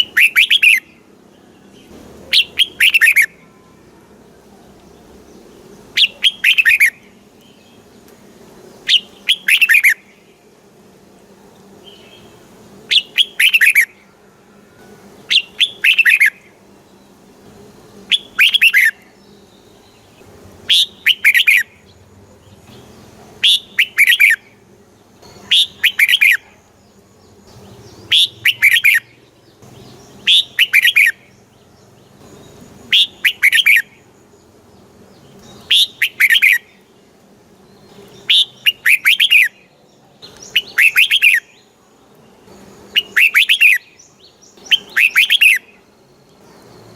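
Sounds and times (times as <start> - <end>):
bulbul singing: 0.0 - 46.9.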